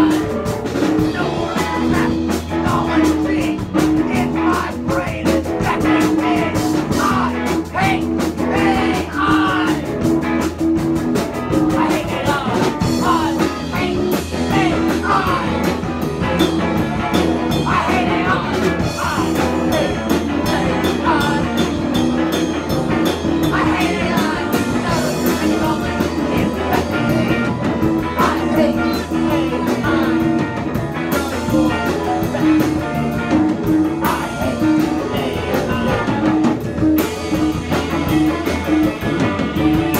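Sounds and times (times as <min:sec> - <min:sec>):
person singing lead vocal: 0:00.0 - 0:10.2, 0:11.5 - 0:39.9
bass guitar: 0:00.0 - 0:39.9
drum kit: 0:00.0 - 0:39.9
electric guitar: 0:00.0 - 0:39.9.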